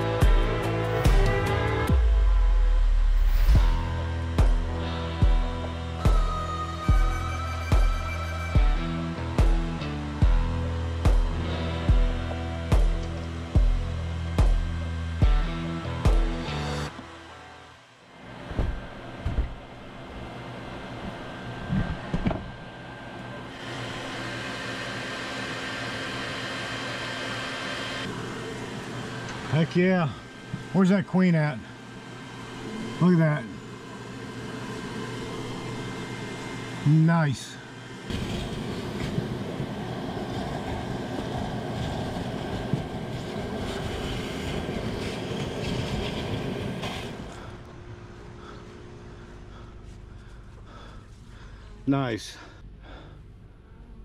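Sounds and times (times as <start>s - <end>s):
vacuum running: 0.0s - 52.0s
steady hum: 0.0s - 54.0s.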